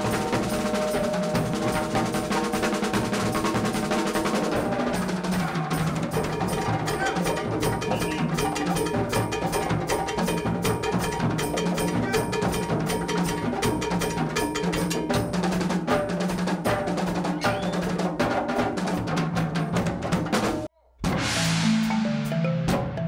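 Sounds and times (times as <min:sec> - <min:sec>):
congas: 0:00.0 - 0:23.0
drum kit: 0:00.0 - 0:23.0.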